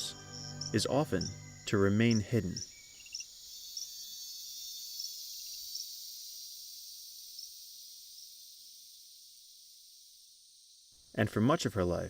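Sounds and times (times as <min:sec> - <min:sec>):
insects calling hiss: 0:00.0 - 0:12.0.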